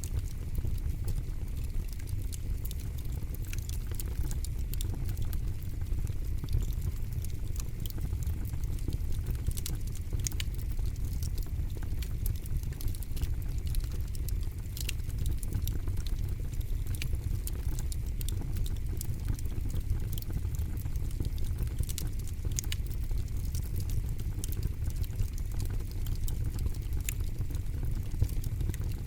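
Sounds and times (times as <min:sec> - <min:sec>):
campfire crackling and popping: 0:00.0 - 0:29.0
low fire rumble: 0:00.0 - 0:29.0.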